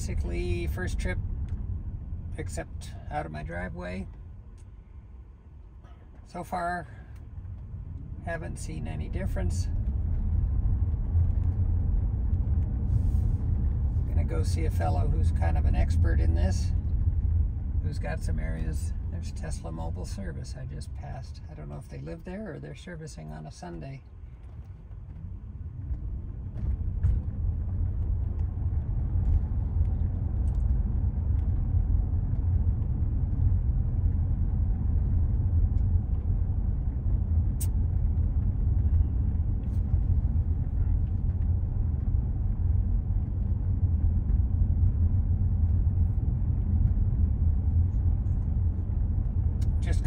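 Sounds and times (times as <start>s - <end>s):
tyre and road noise in car: 0.0s - 50.0s.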